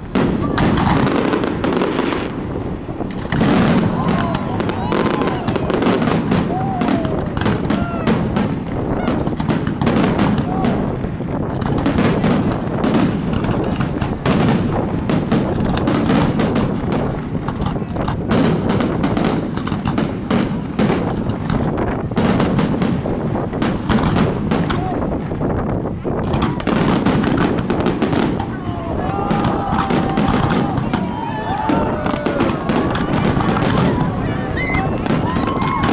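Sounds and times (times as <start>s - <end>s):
fireworks bangs: 0.0s - 35.9s.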